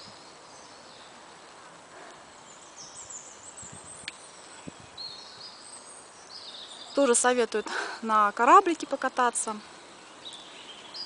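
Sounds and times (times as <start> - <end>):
bird singing: 0.0 - 11.0
faint outdoor hiss: 0.0 - 11.0.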